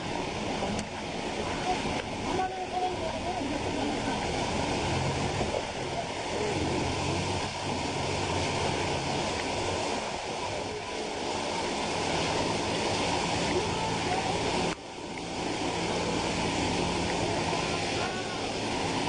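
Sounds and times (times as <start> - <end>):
vehicle engine running low: 0.0 - 19.0.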